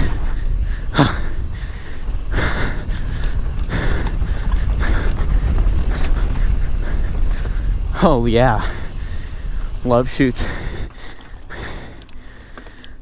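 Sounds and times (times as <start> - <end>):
wind buffeting microphone: 0.0 - 12.8
low rumble of bike tyres: 0.0 - 13.0.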